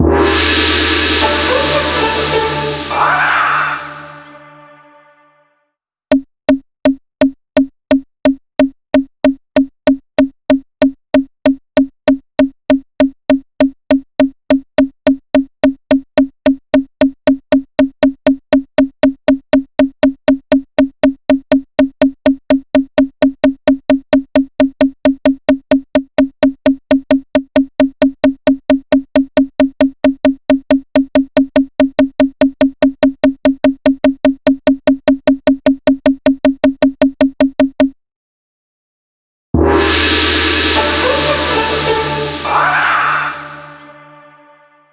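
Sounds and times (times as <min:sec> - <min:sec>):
wood block drum hits: 0:00.0 - 0:04.0, 0:06.1 - 0:38.0, 0:39.6 - 0:43.4.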